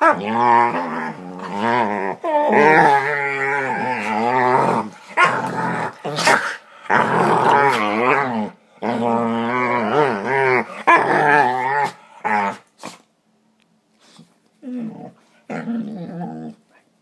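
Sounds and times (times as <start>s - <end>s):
dogs growling: 0.0s - 12.7s, 14.6s - 16.6s.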